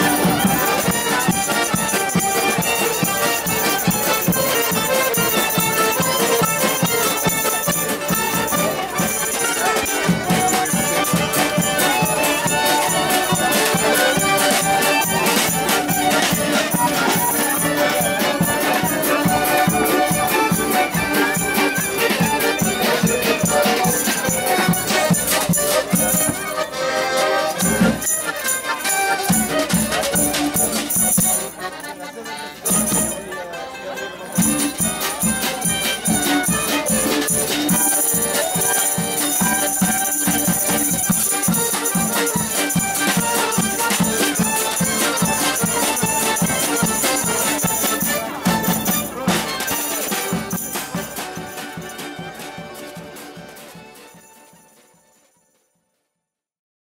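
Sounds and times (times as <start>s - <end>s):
hand percussion: 0.0s - 33.4s, 34.3s - 55.4s
band music with steady beat: 0.0s - 33.5s, 34.2s - 55.2s.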